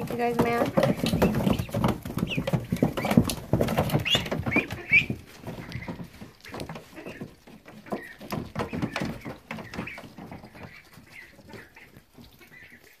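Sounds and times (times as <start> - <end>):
clicks and rustles in wood shavings: 0.0 - 13.0
ducklings peeping: 0.0 - 13.0.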